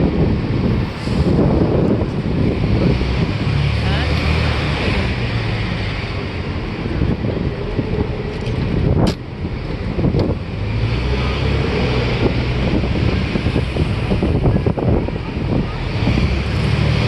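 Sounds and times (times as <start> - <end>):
city street traffic: 0.0 - 17.0
wind rumbling on microphone: 0.0 - 17.0.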